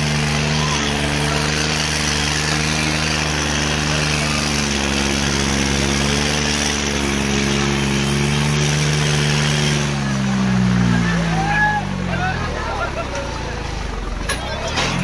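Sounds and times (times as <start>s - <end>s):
tractor diesel engine running hard: 0.0s - 15.0s.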